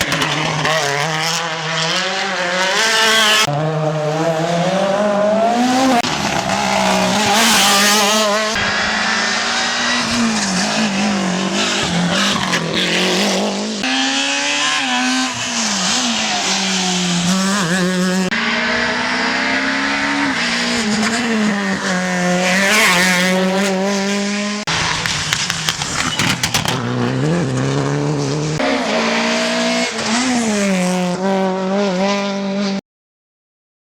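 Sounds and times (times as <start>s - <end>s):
rally car engines revving: 0.0s - 32.8s.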